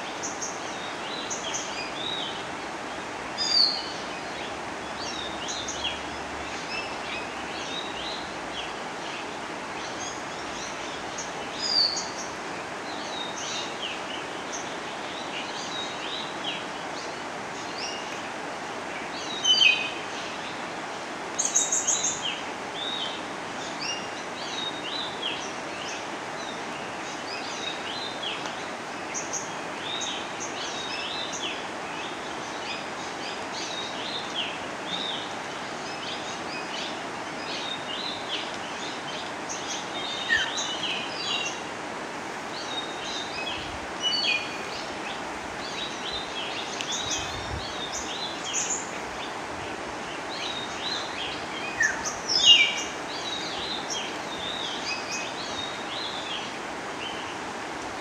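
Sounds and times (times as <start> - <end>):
birds chirping: 0.1 - 57.5.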